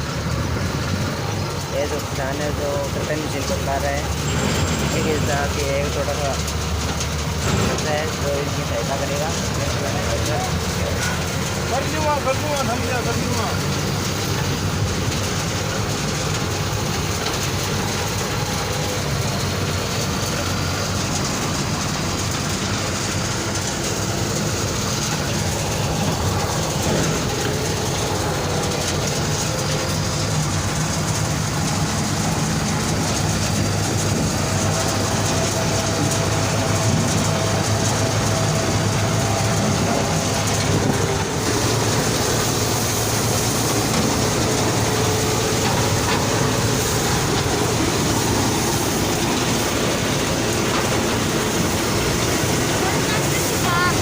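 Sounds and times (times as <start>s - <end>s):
combine harvester engine drone: 0.0s - 54.0s
threshing machinery rattle: 0.0s - 54.0s.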